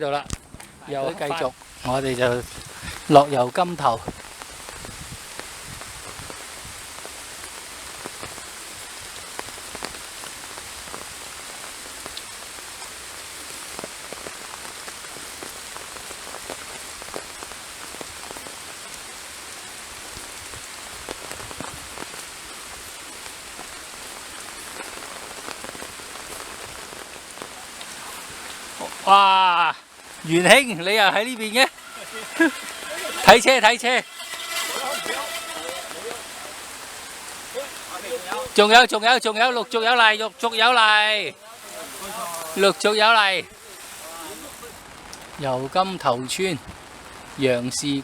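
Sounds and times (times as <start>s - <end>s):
rain pattering: 0.0s - 48.0s.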